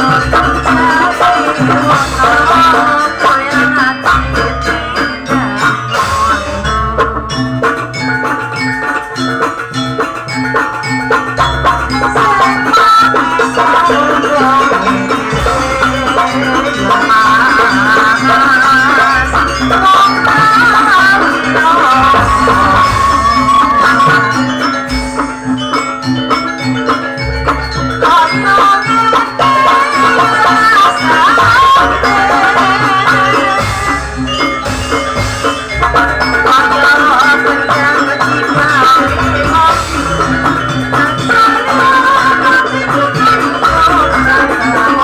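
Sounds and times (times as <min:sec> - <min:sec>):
metal mallet percussion: 0:00.0 - 0:45.0
wavering high melody: 0:00.0 - 0:45.0.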